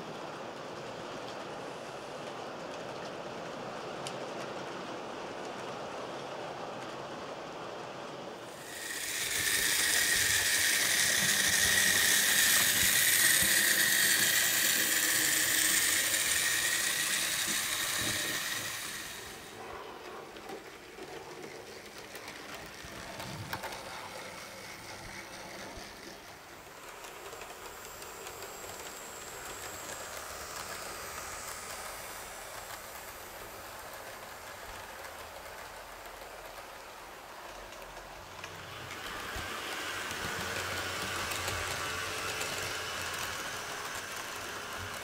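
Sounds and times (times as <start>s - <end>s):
model train running: 0.0s - 45.0s.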